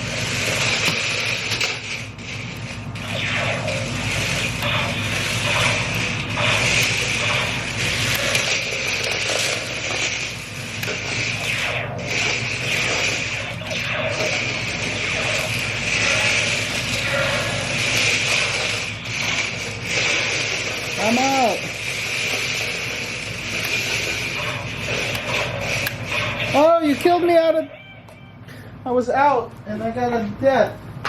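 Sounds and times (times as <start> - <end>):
toy tank motors whirring: 0.0 - 27.5.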